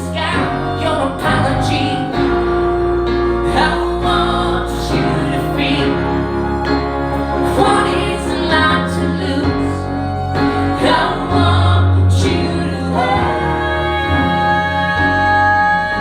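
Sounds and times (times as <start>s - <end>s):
person singing: 0.0s - 16.0s
steady bass line: 0.0s - 16.0s
sustained instrumental chords: 0.0s - 16.0s.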